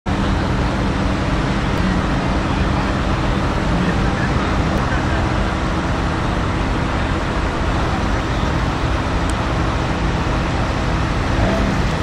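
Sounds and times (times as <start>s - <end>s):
car engine running at low revs: 0.1s - 12.0s
continuous background hum: 0.1s - 12.0s.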